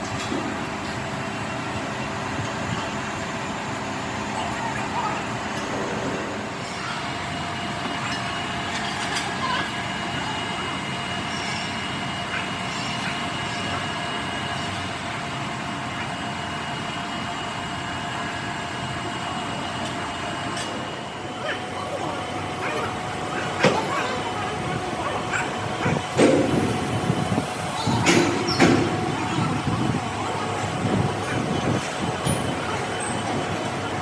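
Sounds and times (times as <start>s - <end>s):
machinery whining: 0.0s - 34.0s.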